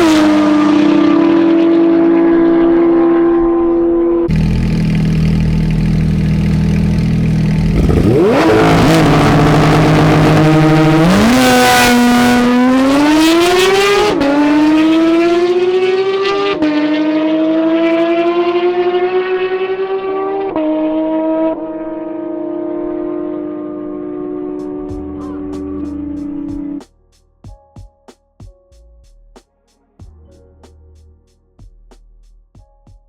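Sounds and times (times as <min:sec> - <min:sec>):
sports car engine accelerating: 0:00.0 - 0:26.8.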